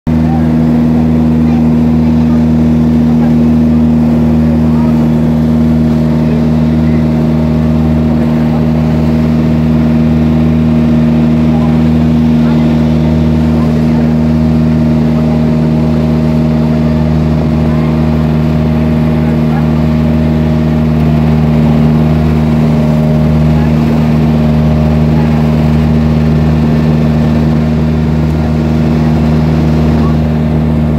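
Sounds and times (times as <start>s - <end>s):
boat engine droning: 0.0s - 30.9s
water rushing along hull: 0.1s - 30.9s.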